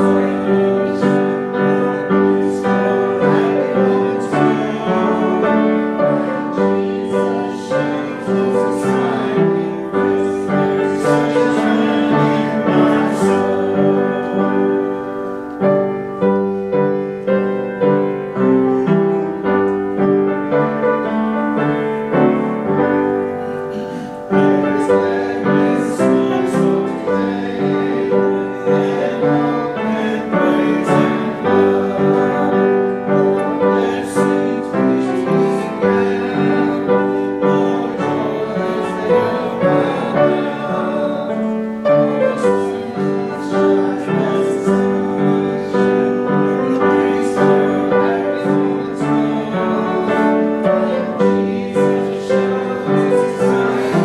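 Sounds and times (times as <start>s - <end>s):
piano playing hymn chords: 0.0s - 54.0s.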